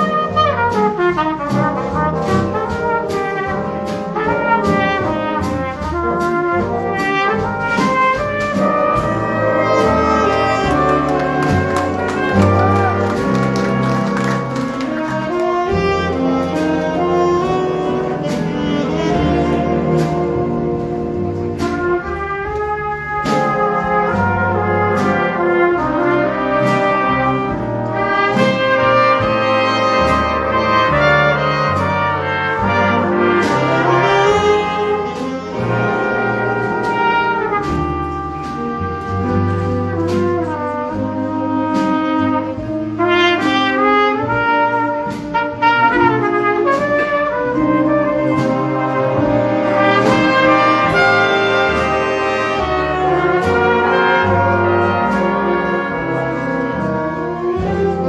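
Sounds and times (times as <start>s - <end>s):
big band jazz: 0.0s - 58.0s
trumpets and trombones: 0.0s - 58.0s.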